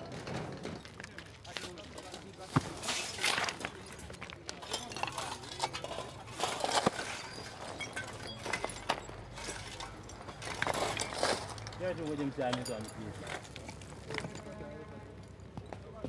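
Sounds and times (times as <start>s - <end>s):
spades clinking and scraping rubble: 0.0s - 14.6s.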